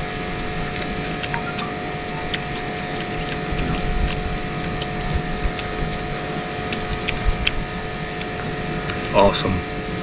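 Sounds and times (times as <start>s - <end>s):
machine hum with whine: 0.0s - 10.0s.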